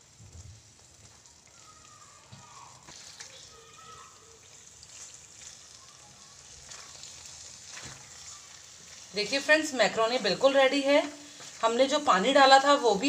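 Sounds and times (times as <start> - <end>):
sauce simmering and bubbling: 0.0 - 13.0.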